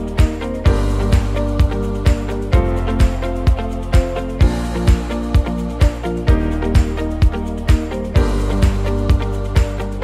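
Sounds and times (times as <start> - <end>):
kick drum beat: 0.2 - 9.8.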